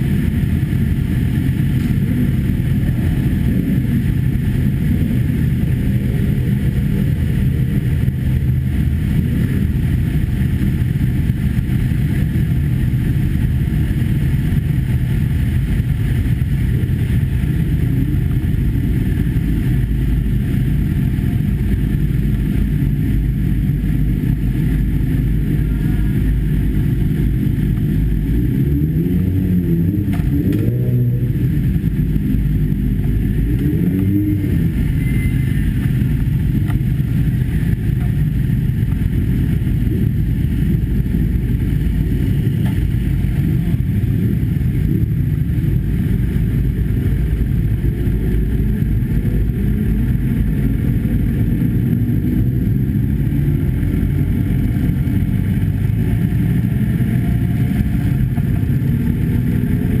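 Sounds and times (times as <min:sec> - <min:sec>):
motorcycle engine at low revs: 0:00.0 - 1:00.0.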